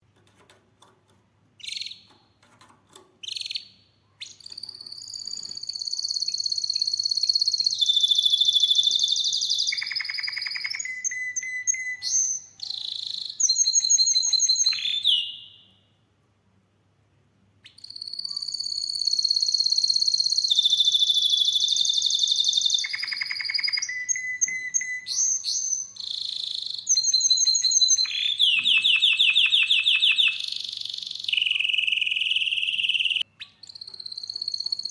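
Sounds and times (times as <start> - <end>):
canary singing trills: 1.6 - 2.2, 3.2 - 15.8, 17.6 - 34.9.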